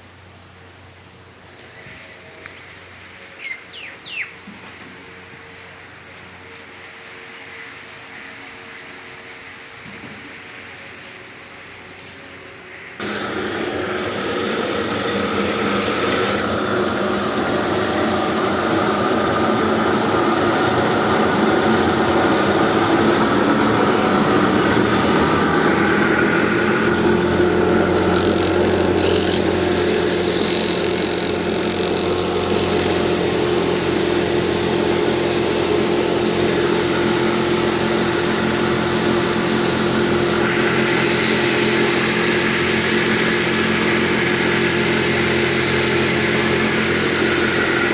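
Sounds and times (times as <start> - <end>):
machine running steadily: 8.7 - 47.9.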